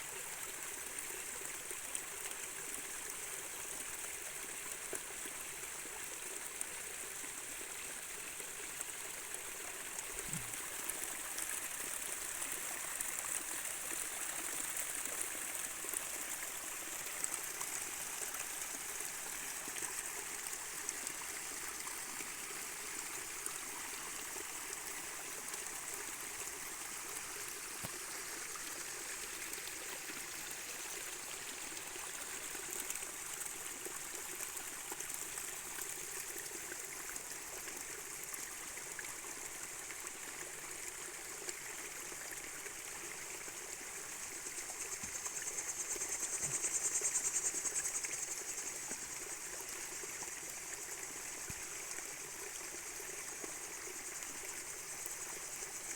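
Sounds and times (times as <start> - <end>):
stream running over rocks: 0.0 - 55.9.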